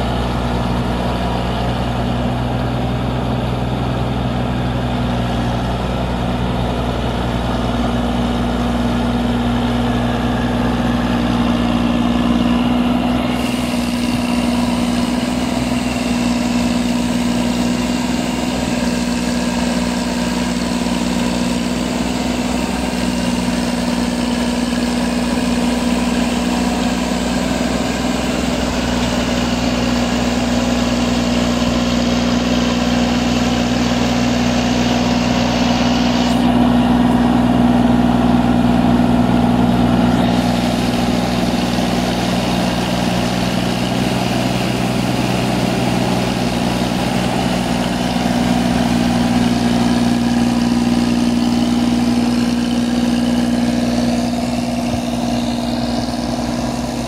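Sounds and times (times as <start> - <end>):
diesel engine running steadily: 0.0 - 57.0.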